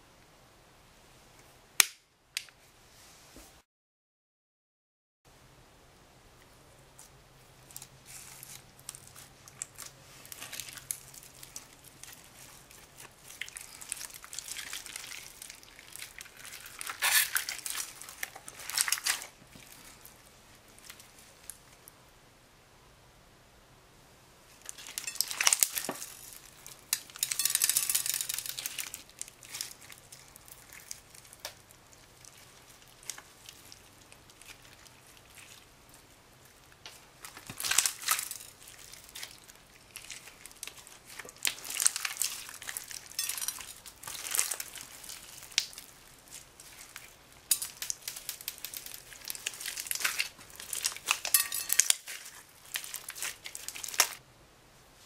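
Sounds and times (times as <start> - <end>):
slime squelching and crackling: 7.0 - 21.9, 24.5 - 54.2.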